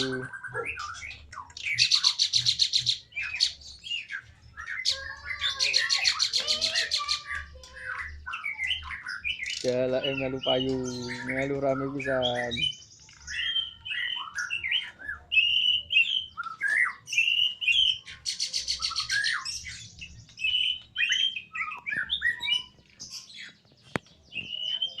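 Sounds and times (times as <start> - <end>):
songbirds whistling and chirping: 0.0 - 25.0.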